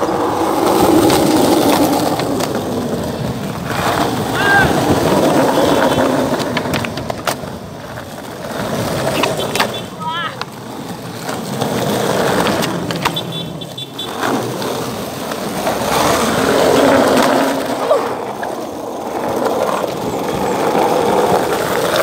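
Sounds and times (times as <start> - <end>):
skateboard clacks: 0.0 - 22.0
skateboard wheels rolling on concrete: 0.0 - 22.0.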